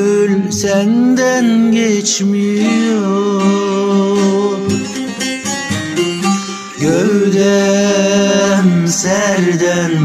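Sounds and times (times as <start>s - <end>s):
person singing folk song: 0.0s - 10.0s
plucked string instrument: 0.0s - 10.0s.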